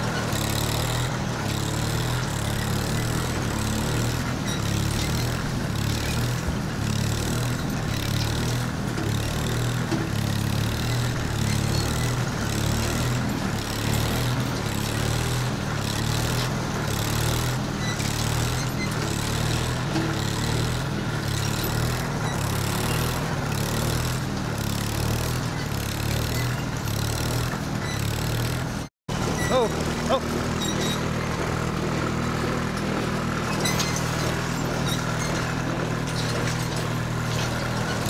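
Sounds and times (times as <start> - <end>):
engine droning: 0.0 - 38.0.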